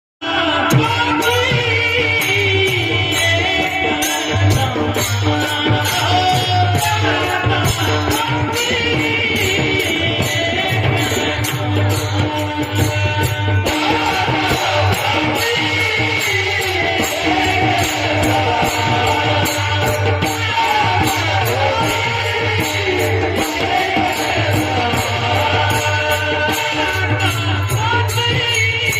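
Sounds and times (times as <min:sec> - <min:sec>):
man singing devotional song: 0:00.2 - 0:28.9
hand cymbals striking a beat: 0:00.3 - 0:28.9.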